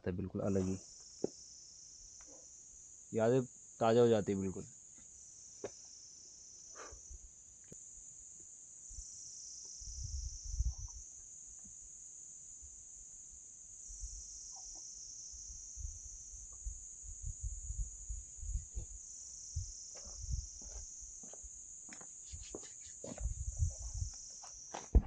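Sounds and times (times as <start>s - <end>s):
insect chorus chirring: 0.0s - 25.0s.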